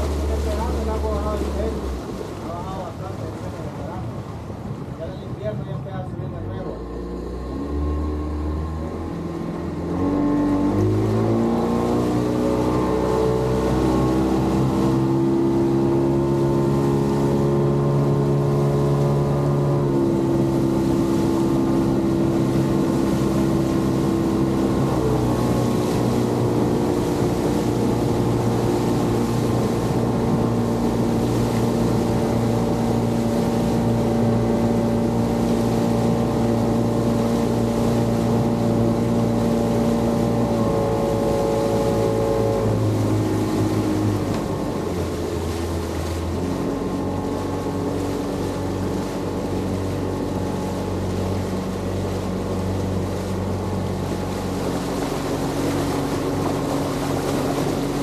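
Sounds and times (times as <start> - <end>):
motorboat engine: 0.0 - 58.0.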